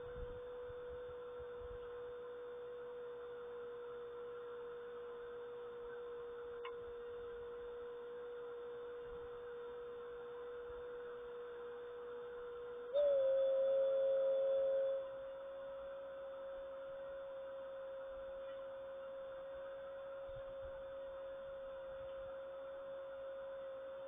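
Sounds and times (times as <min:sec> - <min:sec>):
steady pure tone: 0:00.0 - 0:24.0.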